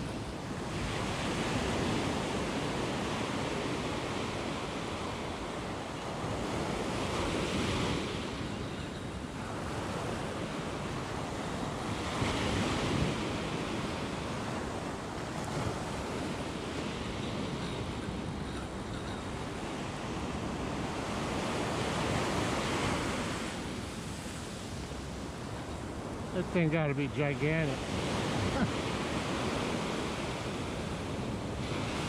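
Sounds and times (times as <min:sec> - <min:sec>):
ocean surf breaking on beach: 0:00.0 - 0:32.0.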